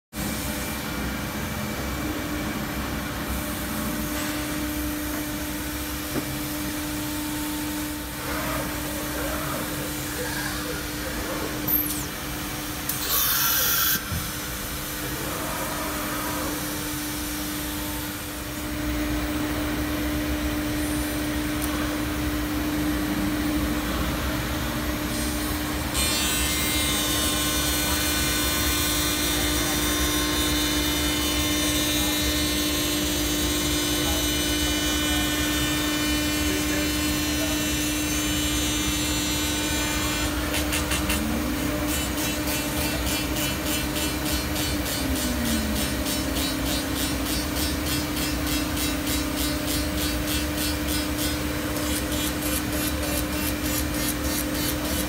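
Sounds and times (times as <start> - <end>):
cnc router humming: 0.2 - 55.0.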